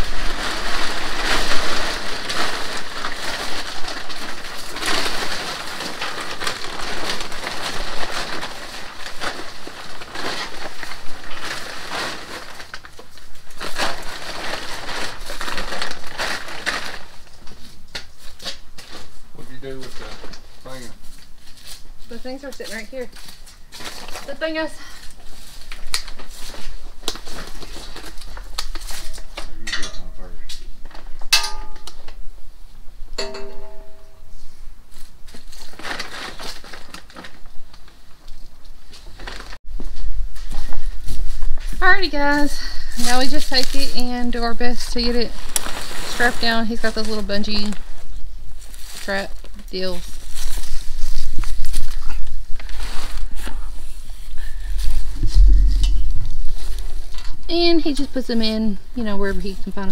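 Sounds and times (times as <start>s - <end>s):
plastic tarp crinkling: 0.0s - 31.3s, 33.2s - 59.9s.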